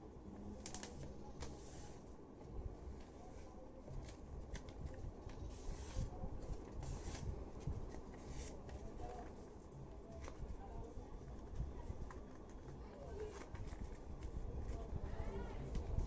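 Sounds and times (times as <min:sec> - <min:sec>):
paper rustling and creasing: 0:00.5 - 0:02.1, 0:02.9 - 0:10.6, 0:11.4 - 0:16.0.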